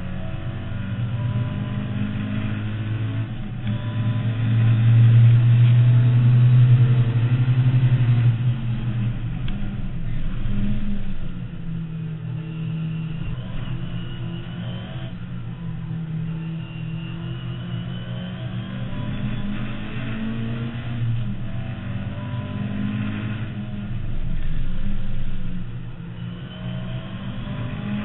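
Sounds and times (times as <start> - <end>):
car engine running hard: 0.0 - 28.0.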